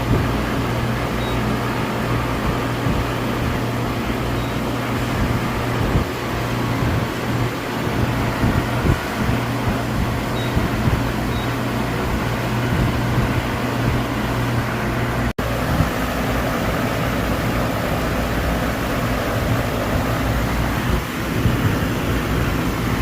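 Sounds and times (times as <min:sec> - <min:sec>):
machine shop machinery hum: 0:00.0 - 0:23.0.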